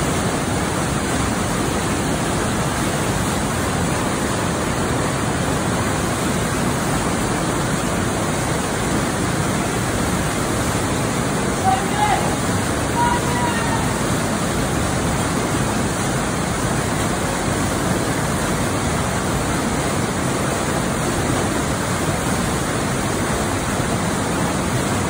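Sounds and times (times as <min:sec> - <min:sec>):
waterfall rushing and churning: 0:00.0 - 0:25.0.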